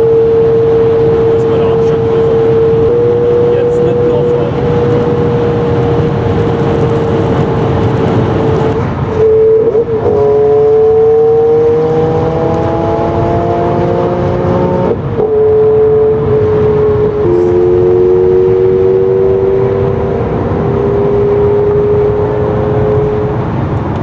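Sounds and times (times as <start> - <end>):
car engine accelerating: 0.0 - 24.0
tyre and road noise: 0.0 - 24.0.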